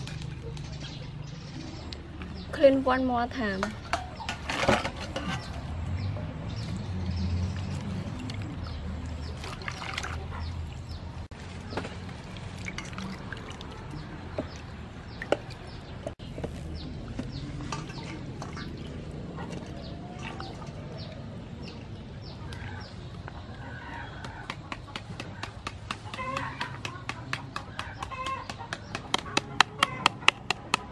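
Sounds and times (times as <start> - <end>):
water splashing and sloshing: 3.4 - 30.9.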